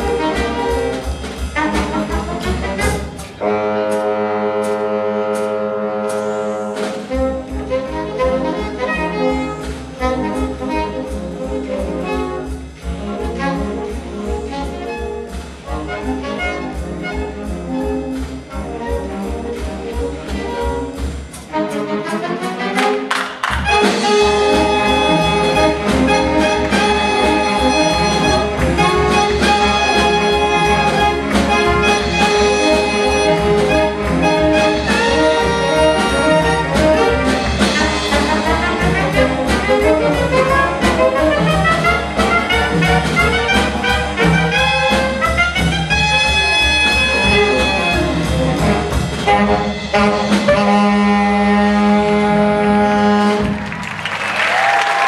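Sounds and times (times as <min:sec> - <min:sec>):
saxophone ensemble with drum kit: 0:00.0 - 0:55.0.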